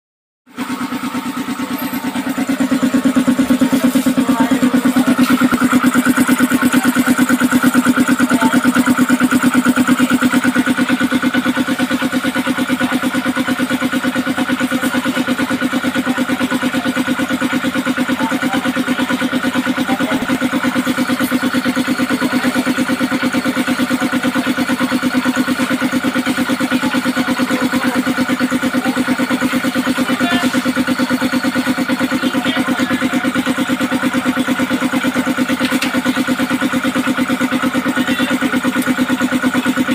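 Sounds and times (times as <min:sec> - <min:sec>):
air compressor chugging: 0:00.5 - 0:39.9.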